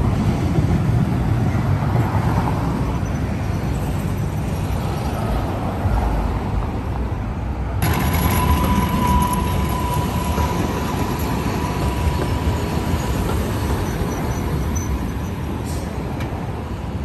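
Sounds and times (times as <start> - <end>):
light-rail train rumbling past: 0.0 - 17.0.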